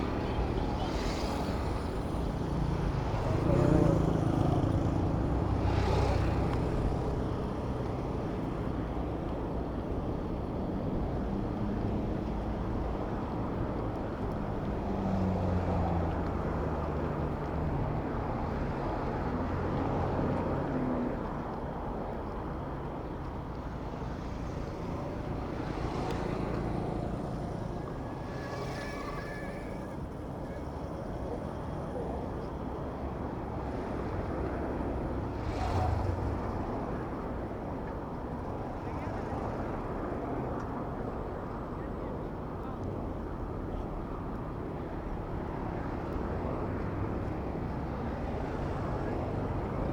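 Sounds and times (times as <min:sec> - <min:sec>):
vehicles passing: 0:00.0 - 0:49.9.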